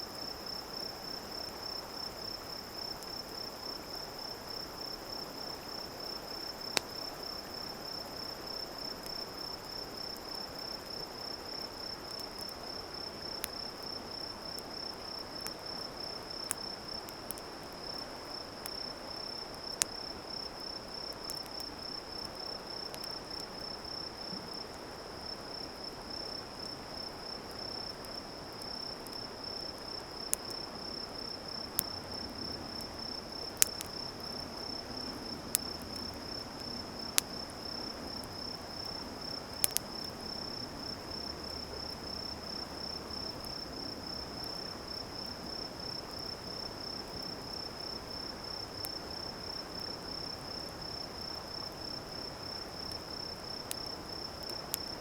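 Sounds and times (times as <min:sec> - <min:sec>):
crickets chirping: 0:00.0 - 0:55.0
soft steady hiss: 0:00.0 - 0:55.0
campfire crackling pops: 0:04.8 - 0:24.8, 0:25.4 - 0:42.6, 0:45.2 - 0:55.0.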